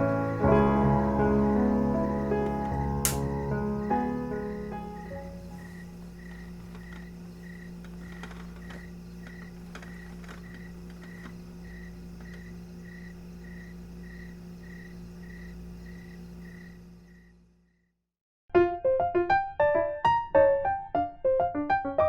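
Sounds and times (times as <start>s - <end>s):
low electrical hum: 0.0s - 17.7s
cricket chirping: 0.0s - 18.0s.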